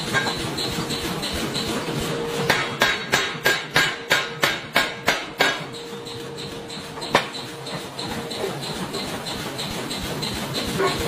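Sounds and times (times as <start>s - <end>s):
machine hum: 0.0s - 11.0s
forging hammer ringing blows: 0.1s - 11.0s.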